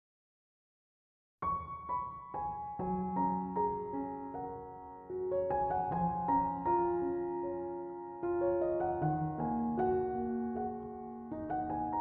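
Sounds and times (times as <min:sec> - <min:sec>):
soft slow piano music: 0:01.4 - 0:12.0.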